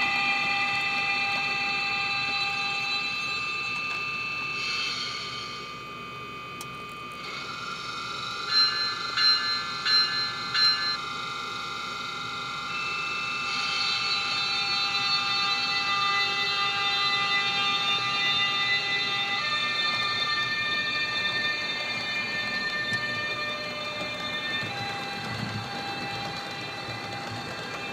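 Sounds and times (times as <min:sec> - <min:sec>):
model locomotive mechanical hum: 0:00.0 - 0:27.9.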